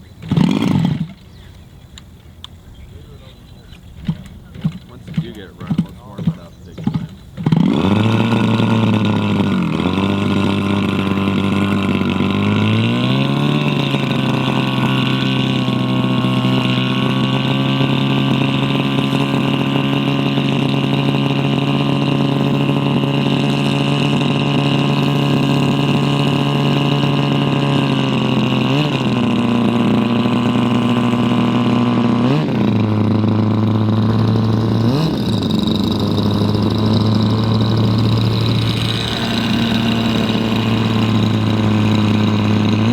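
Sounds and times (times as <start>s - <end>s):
model airplane engine running: 0.0s - 42.9s.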